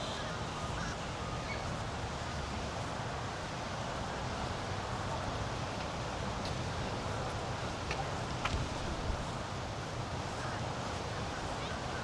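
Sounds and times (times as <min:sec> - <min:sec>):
wind-like hiss: 0:00.0 - 0:12.0.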